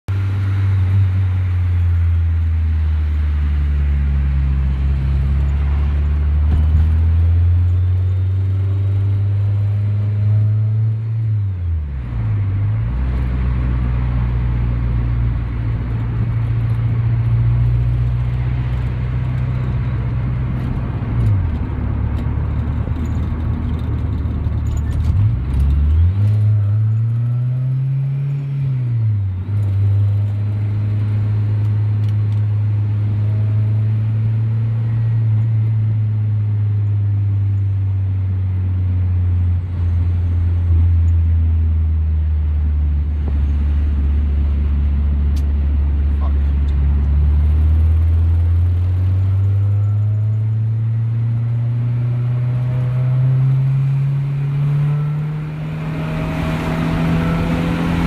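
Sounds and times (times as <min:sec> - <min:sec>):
car engine drone: 0:00.1 - 0:58.0.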